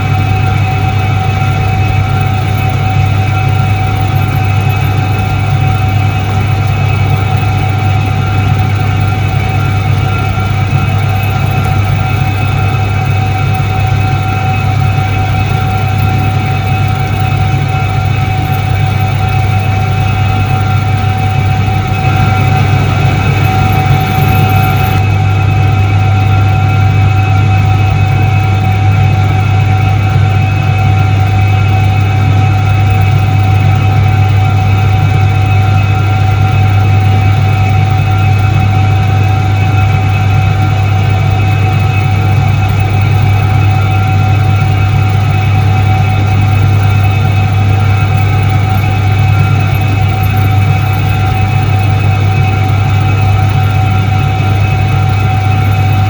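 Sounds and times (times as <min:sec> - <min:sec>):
washing machine motor humming: 0:00.0 - 0:56.0.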